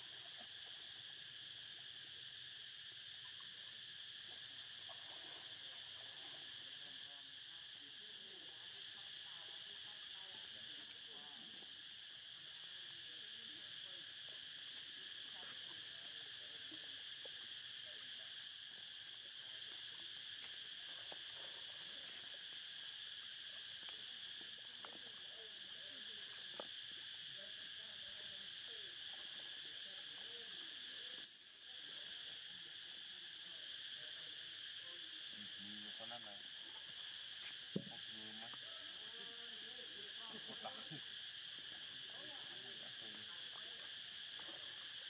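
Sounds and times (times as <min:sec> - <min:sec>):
insect chorus drone: 0:00.0 - 0:45.0.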